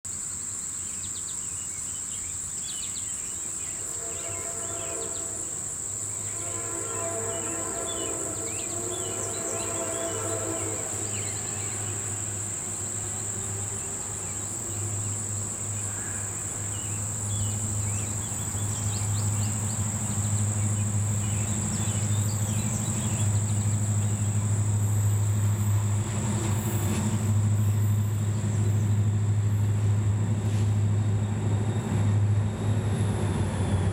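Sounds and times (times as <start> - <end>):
high insect drone: 0.1 - 33.8
diesel locomotive engine drone: 1.4 - 33.9
distant train horn chord: 3.4 - 31.0.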